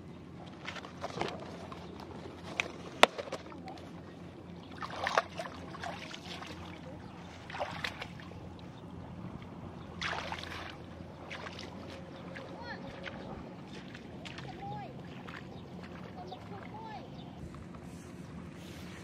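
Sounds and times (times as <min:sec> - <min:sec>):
legs wading through muddy water: 0:00.0 - 0:19.0.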